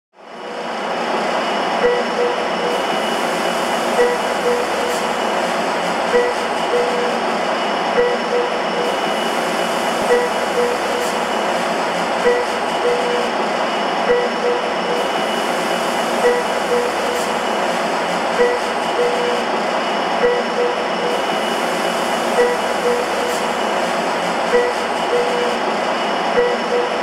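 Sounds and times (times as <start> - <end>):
train running on track: 0.1 - 27.0.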